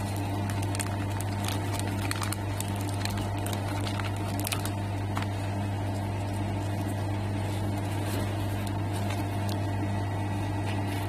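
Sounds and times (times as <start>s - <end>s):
welding machine humming: 0.0s - 11.0s.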